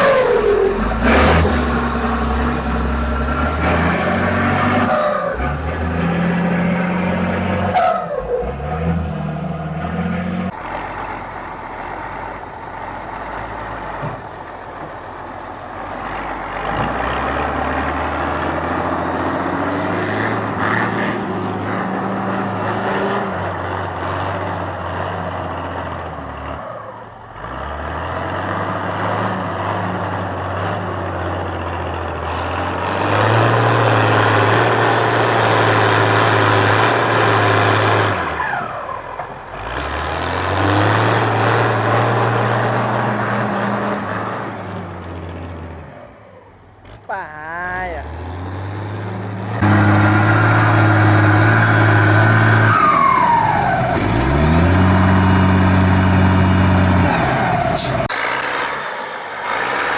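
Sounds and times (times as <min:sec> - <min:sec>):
diesel engine rumbling and revving: 0:00.0 - 0:59.9.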